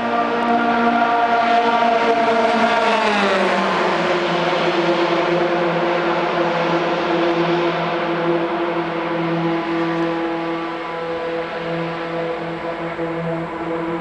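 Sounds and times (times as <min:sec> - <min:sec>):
race car engine passing at speed: 0:00.0 - 0:14.0.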